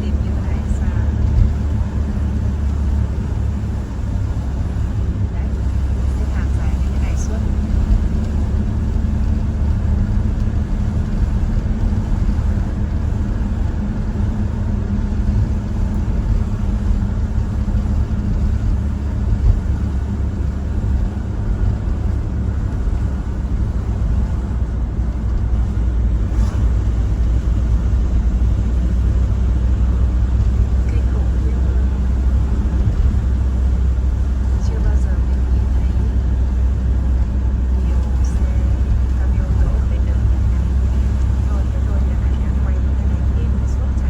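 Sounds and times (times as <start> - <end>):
vehicle road and engine noise: 0.0 - 44.0.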